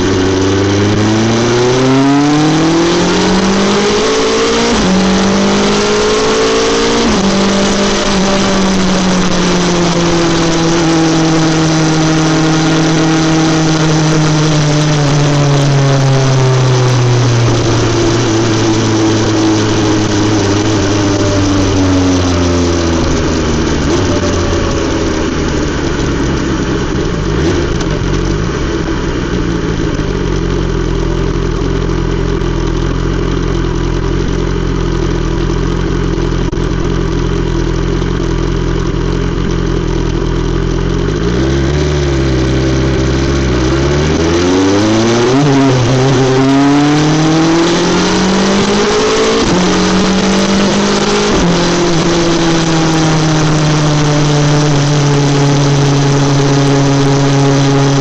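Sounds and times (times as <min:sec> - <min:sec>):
motorcycle engine accelerating: 0:00.0 - 0:58.0
quick gear upshifts: 0:00.0 - 0:58.0.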